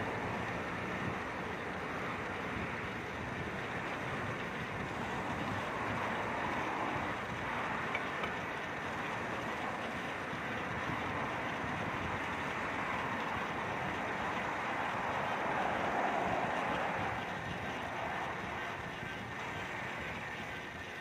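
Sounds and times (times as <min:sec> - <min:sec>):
bicycle tyres on road: 0:00.0 - 0:21.0.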